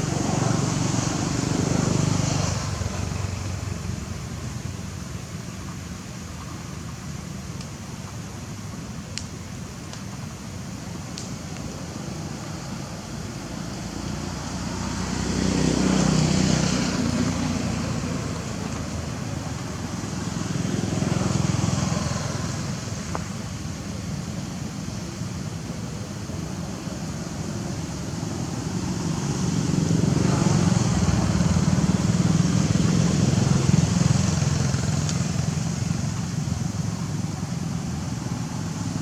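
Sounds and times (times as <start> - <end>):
passing traffic rumble: 0.0 - 6.5, 8.8 - 39.0.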